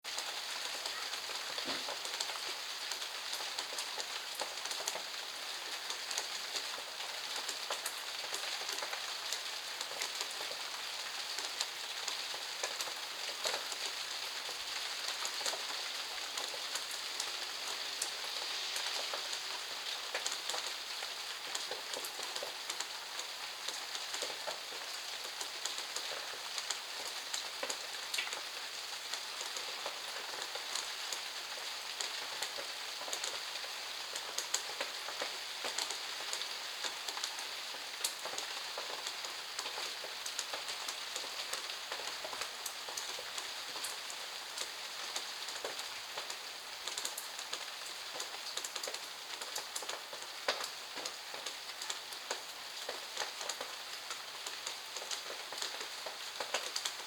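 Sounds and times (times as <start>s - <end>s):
steady rain falling: 0.0s - 57.0s
raindrops ticking close by: 0.1s - 57.0s.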